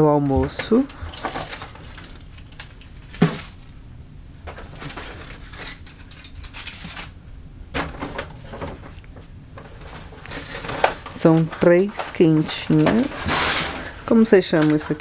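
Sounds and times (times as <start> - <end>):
aluminium foil crinkling: 0.0 - 3.8, 4.6 - 7.2, 8.2 - 15.0
paper bag rustling: 0.0 - 3.8, 4.5 - 7.2, 7.8 - 15.0.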